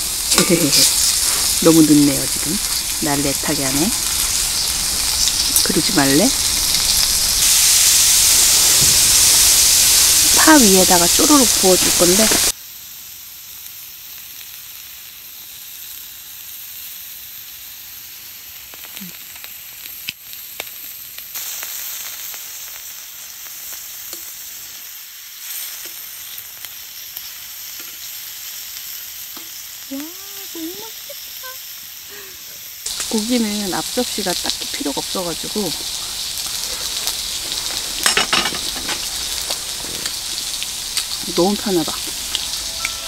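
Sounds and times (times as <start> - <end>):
meat sizzling in frying pan: 0.0 - 43.0.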